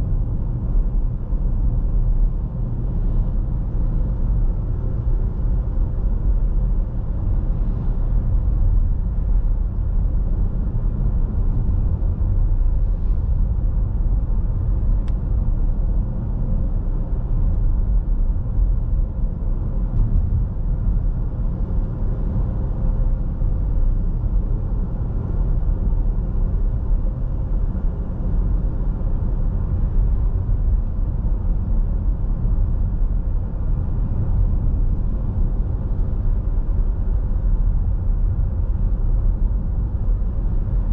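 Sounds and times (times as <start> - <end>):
car interior road rumble: 0.0 - 40.9.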